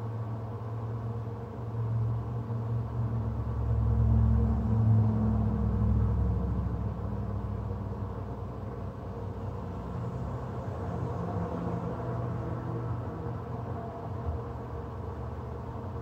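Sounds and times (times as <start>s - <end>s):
faint hum: 0.0s - 16.0s
low mechanical rumble: 0.0s - 16.0s.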